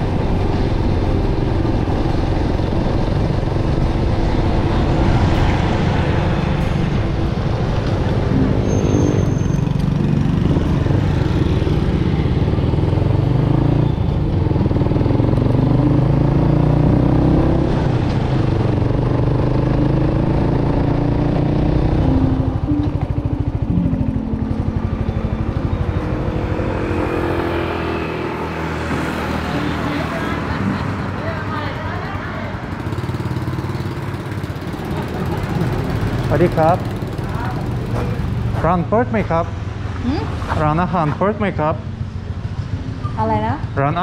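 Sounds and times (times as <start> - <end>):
motorcycle engine running: 6.9 - 44.0.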